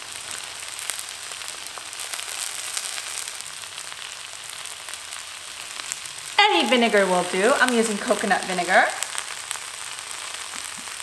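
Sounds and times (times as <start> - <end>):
pancake sizzling in a skillet: 0.0 - 11.0.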